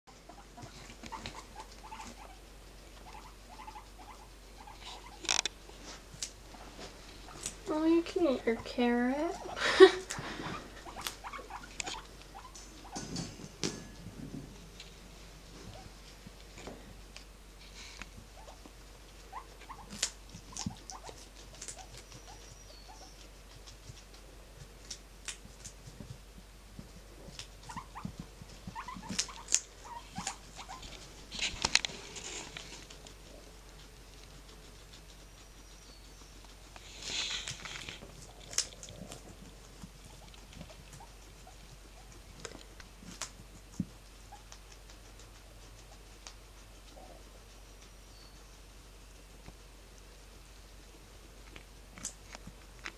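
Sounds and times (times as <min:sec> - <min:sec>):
rustling in hay: 0:00.1 - 0:12.9, 0:14.4 - 0:52.8
animals eating in hay: 0:00.1 - 0:52.9.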